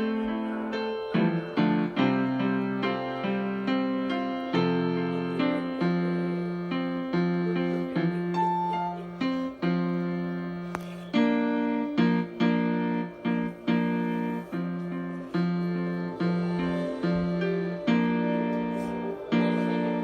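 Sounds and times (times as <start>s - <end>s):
slow piano piece: 0.0s - 20.0s.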